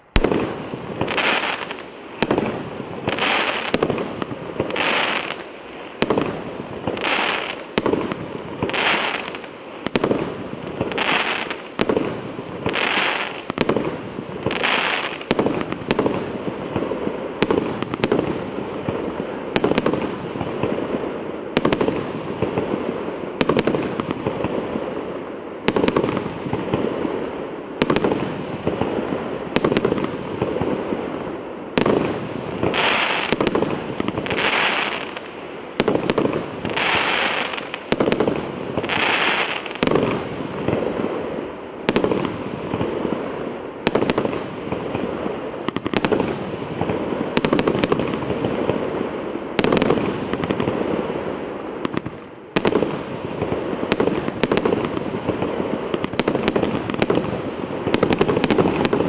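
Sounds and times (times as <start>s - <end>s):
firework aerial bursts: 0.0s - 31.1s, 31.8s - 59.0s.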